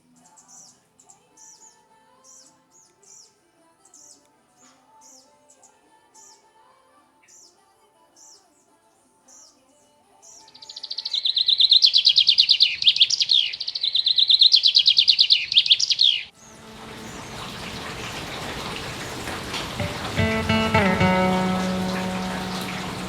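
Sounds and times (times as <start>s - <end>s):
songbird singing: 0.0s - 6.5s, 9.3s - 23.0s.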